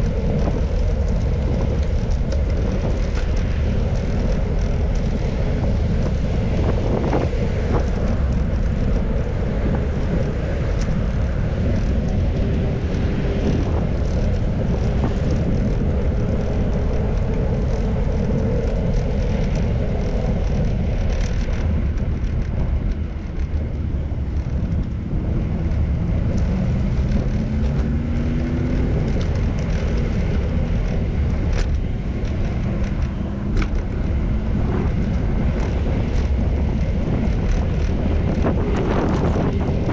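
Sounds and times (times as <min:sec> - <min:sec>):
traffic noise: 0:00.0 - 0:39.9
vehicle engine accelerating: 0:00.0 - 0:39.9
wind rush on microphone: 0:00.0 - 0:39.9.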